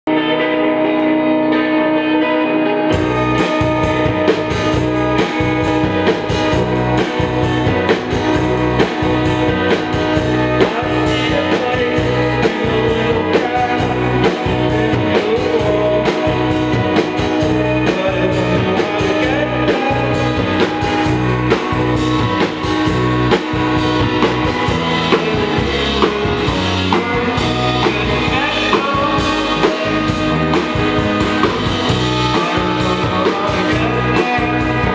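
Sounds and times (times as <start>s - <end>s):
drums: 0.1s - 34.9s
live rock band playing: 0.1s - 34.9s.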